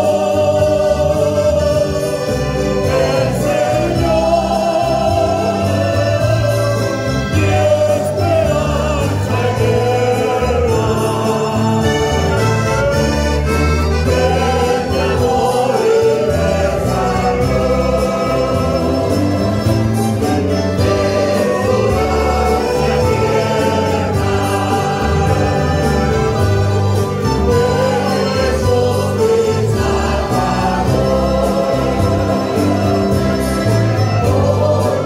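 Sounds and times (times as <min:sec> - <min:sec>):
accordion: 0:00.0 - 0:35.0
keyboard: 0:00.0 - 0:35.0
steady bass line: 0:00.0 - 0:35.0
strummed acoustic guitars: 0:00.0 - 0:35.0
voices singing together: 0:00.0 - 0:35.0.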